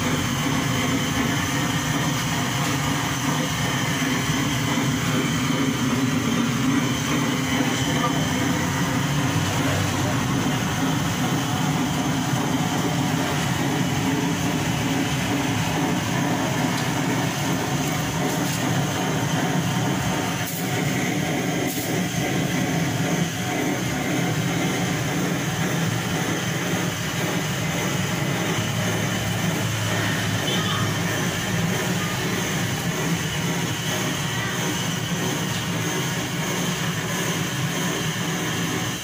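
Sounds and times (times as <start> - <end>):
blowtorch rushing: 0.0 - 39.0.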